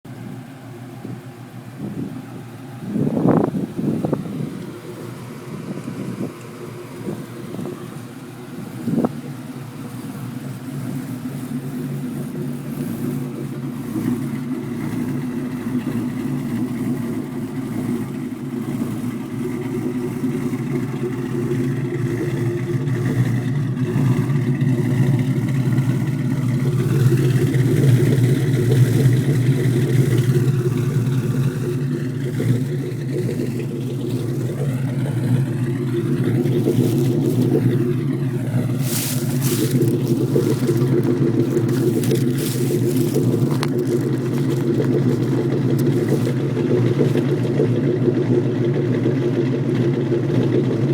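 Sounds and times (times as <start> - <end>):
deep car exhaust rumble: 0.0 - 50.9.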